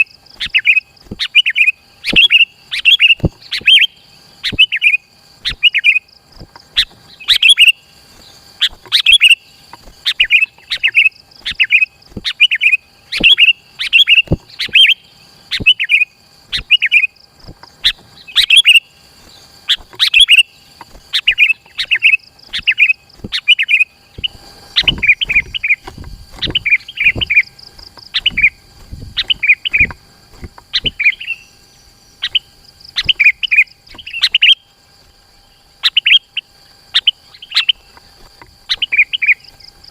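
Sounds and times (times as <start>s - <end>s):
bird singing rapid phrases: 0.0s - 39.9s.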